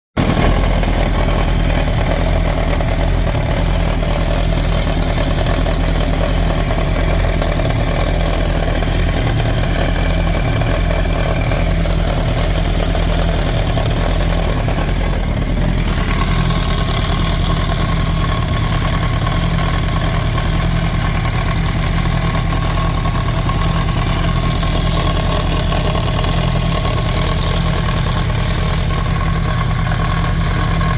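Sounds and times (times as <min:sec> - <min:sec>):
motorcycle engine idling: 0:00.2 - 0:30.9.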